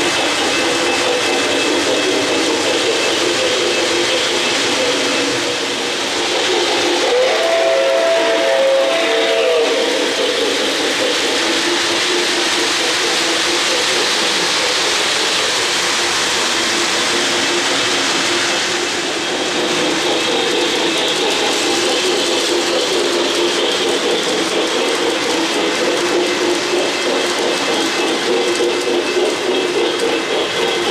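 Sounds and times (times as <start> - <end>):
model trains rumbling and clattering: 0.0 - 30.9.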